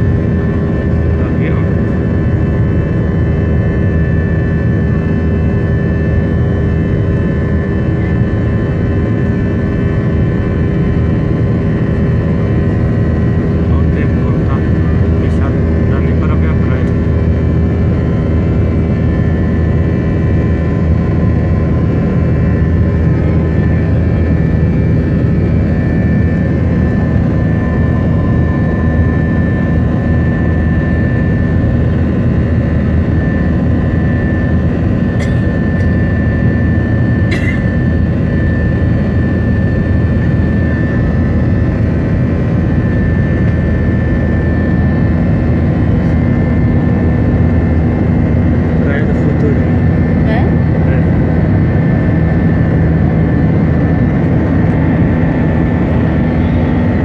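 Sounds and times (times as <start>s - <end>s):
jet engine drone: 0.0s - 57.0s
high whine: 7.0s - 57.0s.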